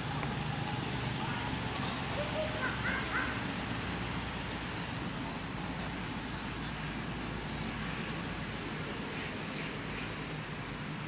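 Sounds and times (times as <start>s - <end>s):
even outdoor hiss: 0.0s - 11.0s.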